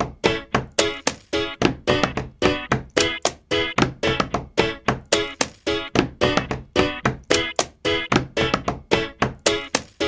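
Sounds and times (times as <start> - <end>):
hands drumming on wooden desks: 0.0 - 10.0.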